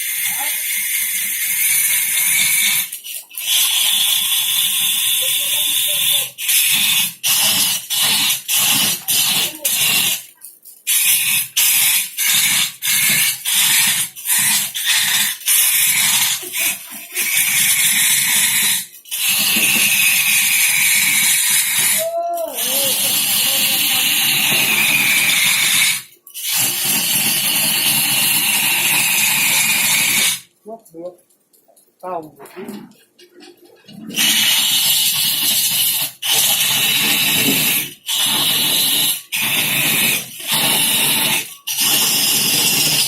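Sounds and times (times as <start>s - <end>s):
tool cutting wood: 0.0s - 30.5s, 34.0s - 43.0s.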